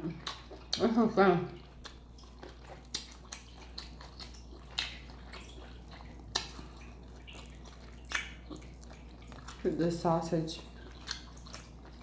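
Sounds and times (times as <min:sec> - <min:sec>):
wet eating sounds: 0:00.0 - 0:12.0.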